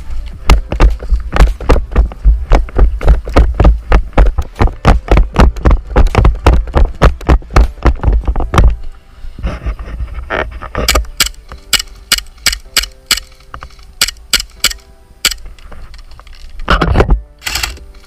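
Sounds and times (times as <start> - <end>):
rustling movement: 0.0 - 18.0.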